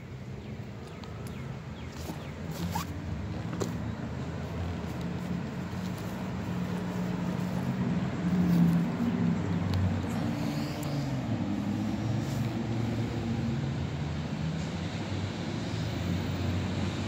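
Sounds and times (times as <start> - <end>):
passing road traffic: 0.0 - 17.0.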